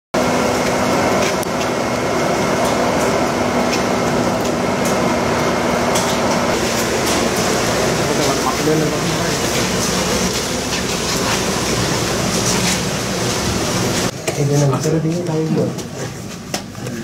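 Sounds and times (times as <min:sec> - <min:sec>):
steady mechanical hum: 0:00.2 - 0:17.0.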